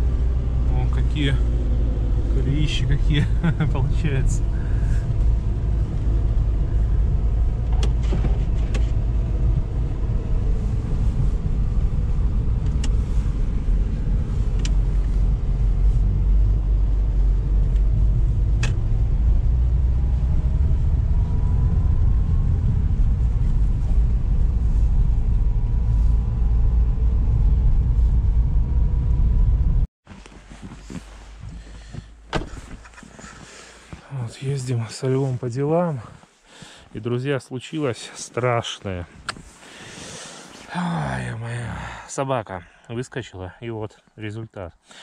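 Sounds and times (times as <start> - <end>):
car engine and tyre rumble: 0.0 - 45.0.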